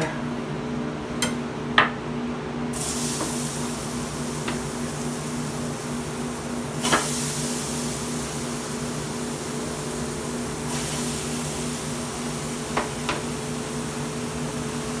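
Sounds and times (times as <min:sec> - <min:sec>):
steady hum: 0:00.0 - 0:15.0
vegetables sizzling in roux: 0:02.8 - 0:15.0.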